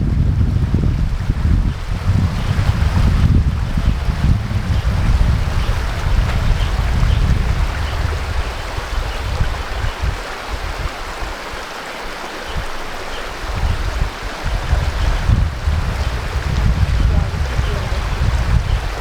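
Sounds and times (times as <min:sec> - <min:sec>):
running water rushing: 0:00.0 - 0:19.0
wind buffeting microphone: 0:00.0 - 0:19.0.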